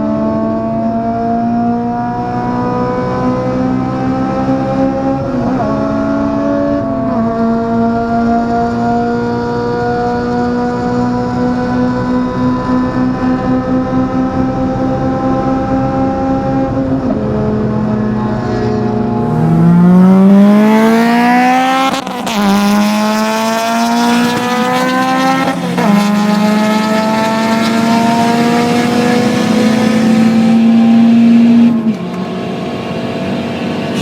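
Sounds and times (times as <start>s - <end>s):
car engine revving at high revs: 0.0s - 34.0s.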